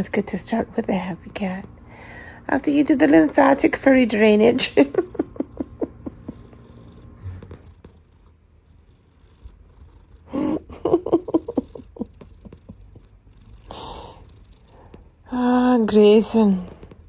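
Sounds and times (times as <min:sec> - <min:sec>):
kitten purring: 0:00.0 - 0:17.0.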